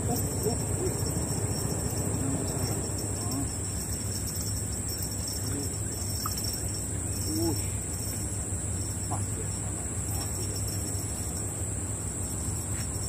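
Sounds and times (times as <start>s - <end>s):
insect chorus: 0.0s - 13.0s
low steady rumble: 0.0s - 13.0s.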